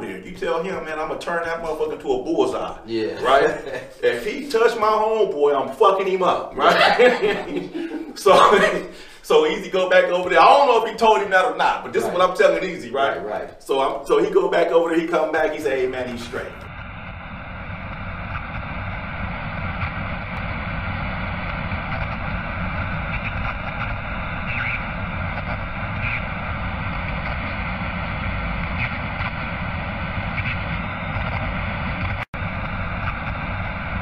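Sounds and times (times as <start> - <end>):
steady rushing rumbling noise: 3.4 - 34.0.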